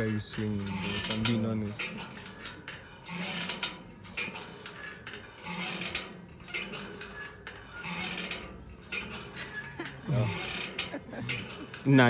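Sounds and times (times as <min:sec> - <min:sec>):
metal swing creaking and clinking: 0:00.0 - 0:12.0.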